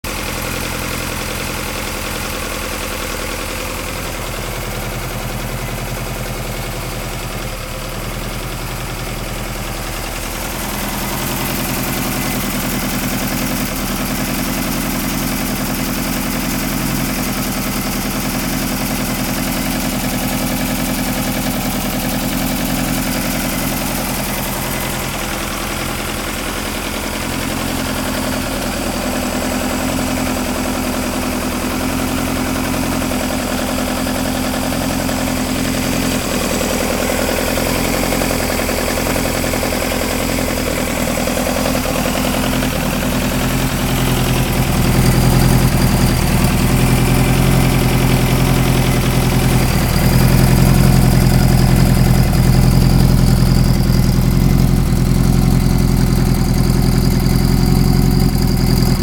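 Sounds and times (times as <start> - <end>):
four-cylinder engine idling: 0.0 - 59.0.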